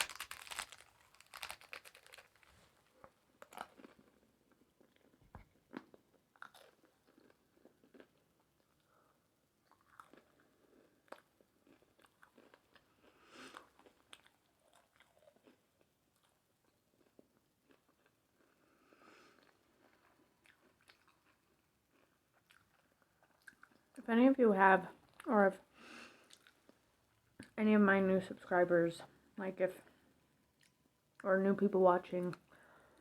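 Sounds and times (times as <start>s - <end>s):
chewing crisp taco: 0.0s - 24.0s, 25.9s - 27.6s, 30.5s - 31.3s.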